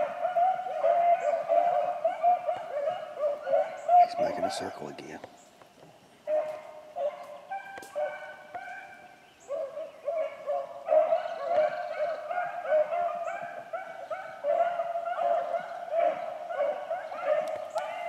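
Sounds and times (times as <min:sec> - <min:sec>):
hunting dogs baying: 0:00.0 - 0:05.2, 0:06.2 - 0:18.0.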